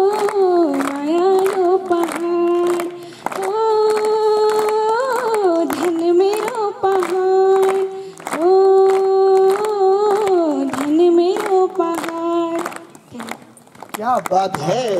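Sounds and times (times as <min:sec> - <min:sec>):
girl singing unaccompanied: 0:00.0 - 0:13.4.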